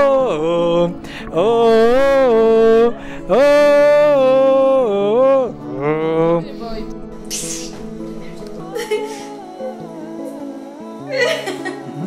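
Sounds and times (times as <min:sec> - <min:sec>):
person singing long held notes: 0:00.0 - 0:12.0
steady musical backing: 0:00.0 - 0:12.0.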